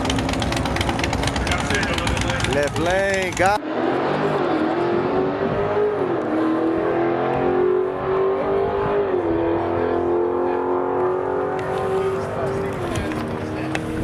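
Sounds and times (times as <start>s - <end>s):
racing car engine at full throttle: 0.0s - 14.0s.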